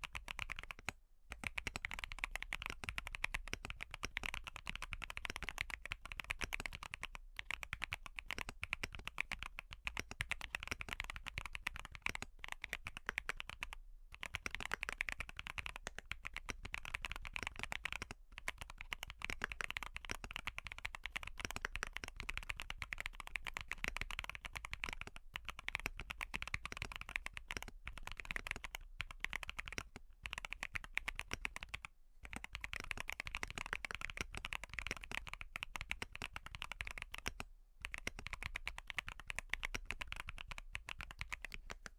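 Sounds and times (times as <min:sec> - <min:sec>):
mechanical keyboard typing: 0:00.0 - 0:41.9.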